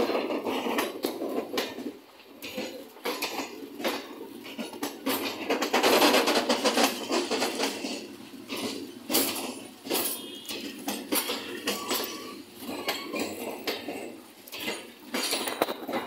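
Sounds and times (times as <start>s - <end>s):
train wheels clanking over rail joints: 0.0s - 16.0s.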